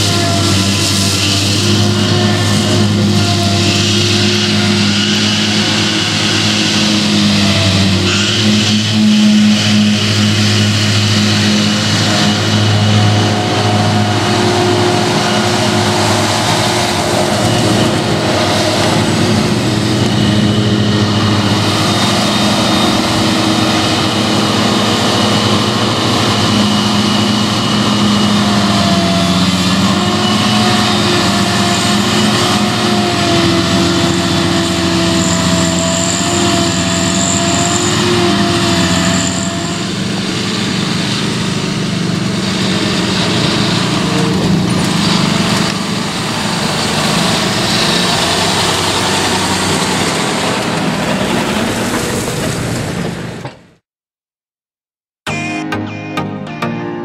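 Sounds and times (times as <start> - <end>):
forage harvester engine droning: 0.0 - 53.8
tractor engine: 0.0 - 53.8.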